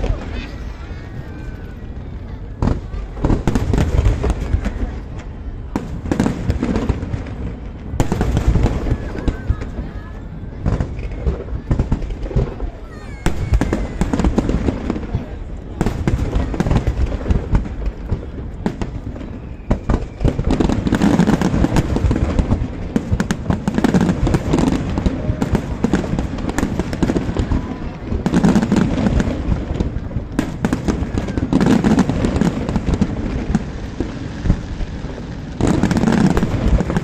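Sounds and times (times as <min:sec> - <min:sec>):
firework shells crackling and popping: 0:00.0 - 0:37.0.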